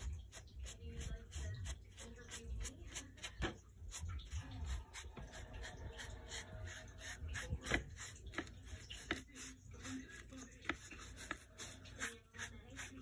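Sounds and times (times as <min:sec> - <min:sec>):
paintbrush scrubbing on canvas: 0:00.0 - 0:13.0.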